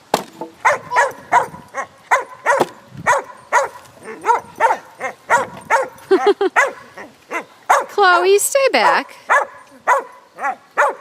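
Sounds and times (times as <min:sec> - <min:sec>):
puppy barking: 0:00.6 - 0:07.9, 0:08.8 - 0:11.0.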